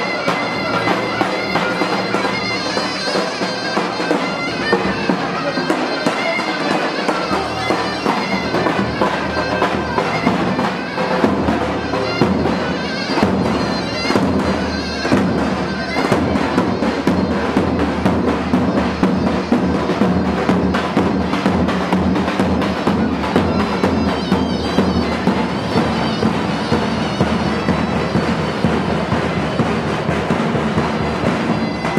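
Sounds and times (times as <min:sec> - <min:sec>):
big drum beats: 0:00.0 - 0:31.9
shrill reed pipe: 0:00.0 - 0:31.9.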